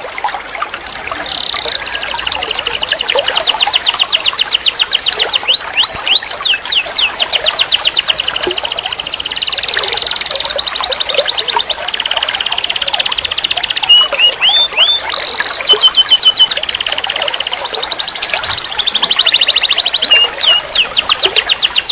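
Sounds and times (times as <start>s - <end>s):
canary singing trills: 1.2s - 21.9s.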